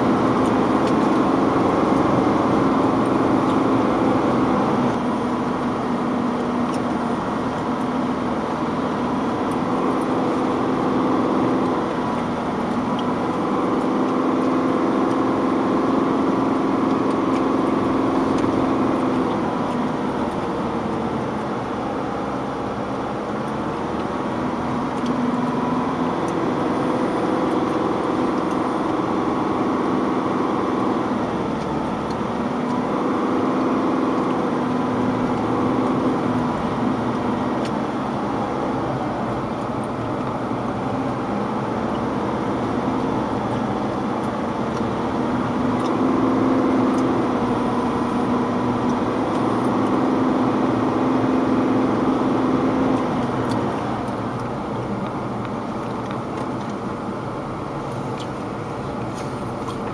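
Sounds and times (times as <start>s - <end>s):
road and tyre noise: 0.0s - 59.9s
vehicle engine running: 0.0s - 59.9s.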